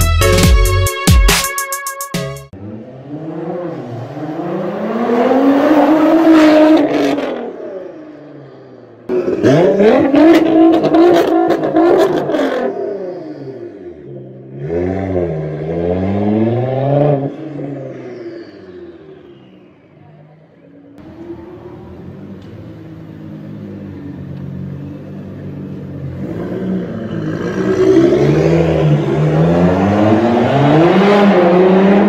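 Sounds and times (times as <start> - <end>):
car engine revving and accelerating: 2.6 - 32.0.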